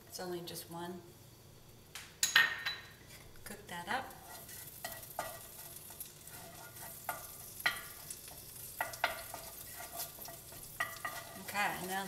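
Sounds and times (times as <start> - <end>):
soft sizzle of frying: 0.0 - 12.0.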